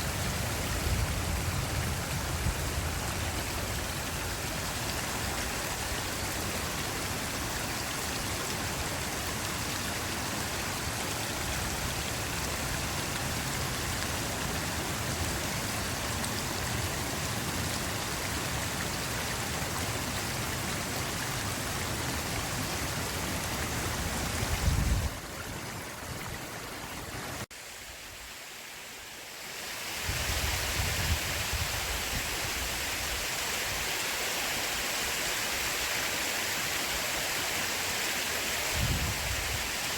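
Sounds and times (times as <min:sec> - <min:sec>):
forest stream running: 0:00.0 - 0:39.9.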